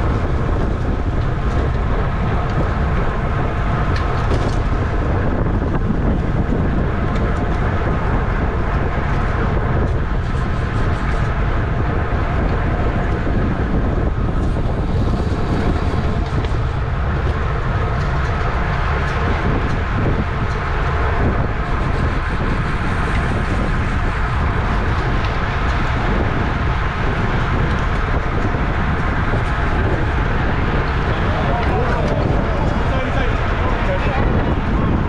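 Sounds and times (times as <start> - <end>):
bicycle road noise: 0.0 - 35.0
rushing wind: 0.0 - 35.0.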